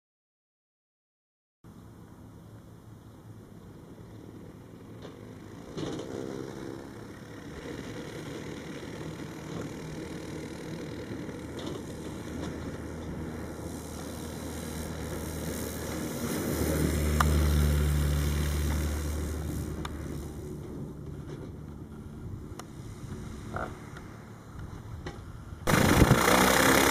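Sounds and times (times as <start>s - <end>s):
electric aircraft propeller drone: 1.7s - 26.9s.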